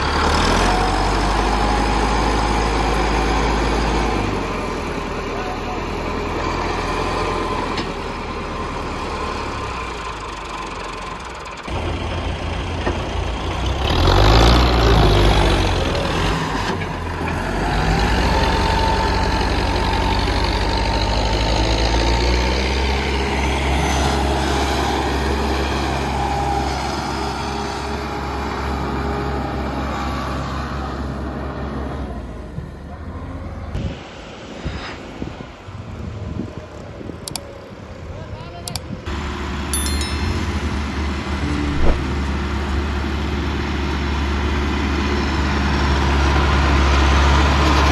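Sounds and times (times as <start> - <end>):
tractor diesel engine revving: 0.0 - 33.7, 39.1 - 47.9.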